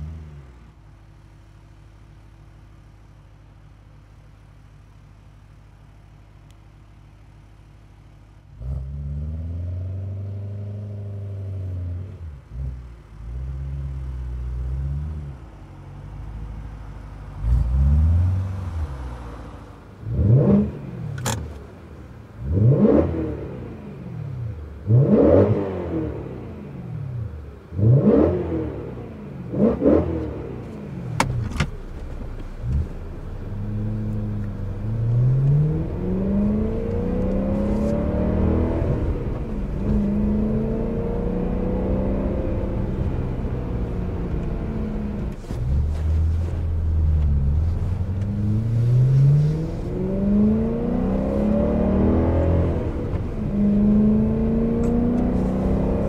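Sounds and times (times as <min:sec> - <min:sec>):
car engine revving: 0:08.4 - 0:56.0.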